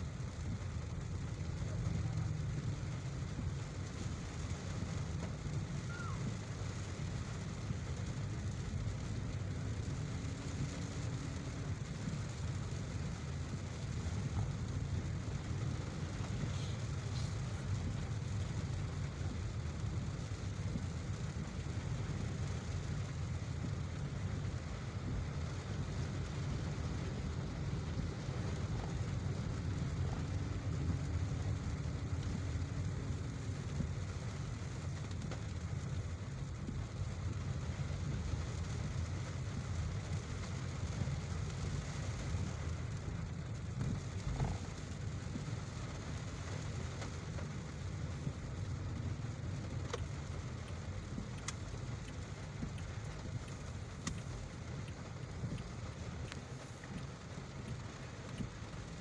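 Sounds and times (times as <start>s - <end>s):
car engine and tyres rumbling: 0.0s - 59.0s
rain hissing: 0.0s - 59.0s.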